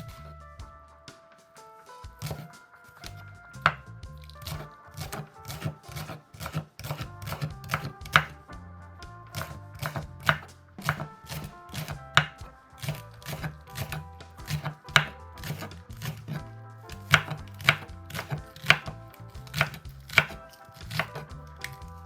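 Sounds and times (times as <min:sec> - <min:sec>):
background music with bass line: 0:00.0 - 0:22.0
knife chopping on cutting board: 0:02.2 - 0:02.5, 0:03.1 - 0:08.4, 0:09.4 - 0:21.8.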